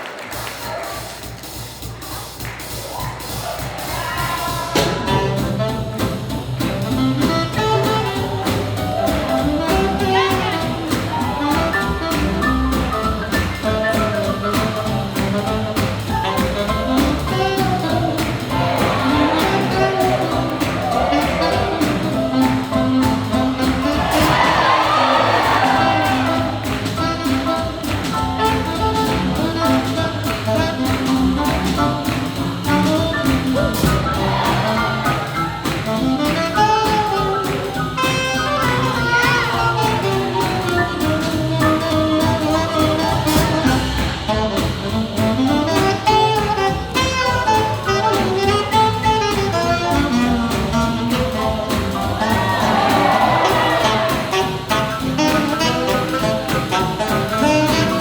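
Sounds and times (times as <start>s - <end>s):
big band swing jazz: 0.0s - 58.0s.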